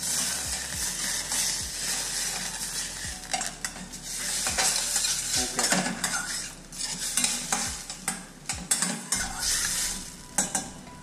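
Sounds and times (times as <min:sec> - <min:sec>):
spatula scraping a pan: 0:00.0 - 0:10.8
food sizzling in a pan: 0:00.0 - 0:11.0.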